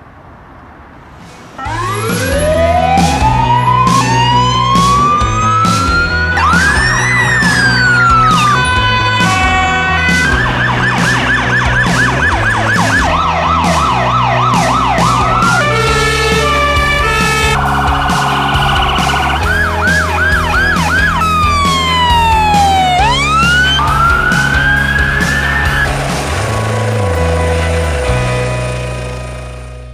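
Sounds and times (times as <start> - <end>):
emergency vehicle sirens: 1.5 - 29.4
background music with beat: 1.6 - 29.6.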